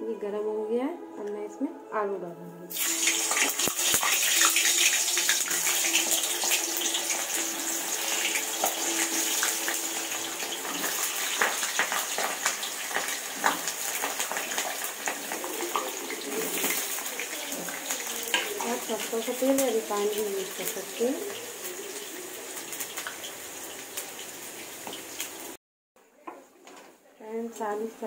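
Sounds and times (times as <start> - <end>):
potatoes deep-frying in oil: 2.7 - 25.6.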